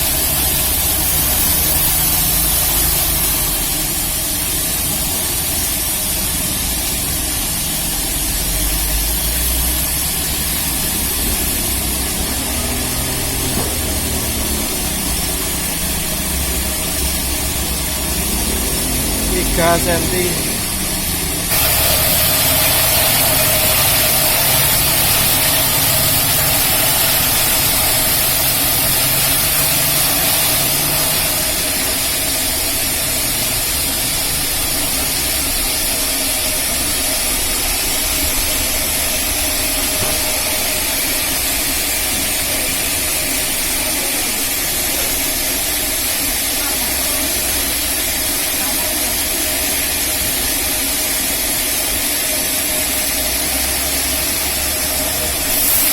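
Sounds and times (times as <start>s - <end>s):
band sawmill cutting log: 0.0s - 55.9s.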